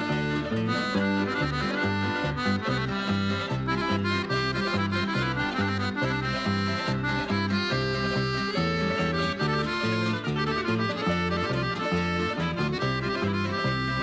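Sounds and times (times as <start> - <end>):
accordion march music: 0.0 - 14.0
bass line: 0.0 - 14.0.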